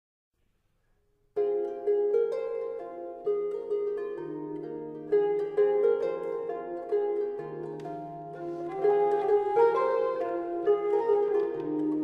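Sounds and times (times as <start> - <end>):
harp-like plucked string music: 1.3 - 12.0.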